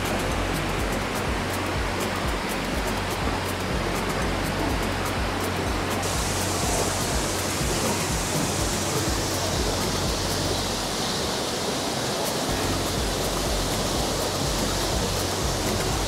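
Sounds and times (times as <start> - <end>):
waterfall pouring: 0.0 - 16.0.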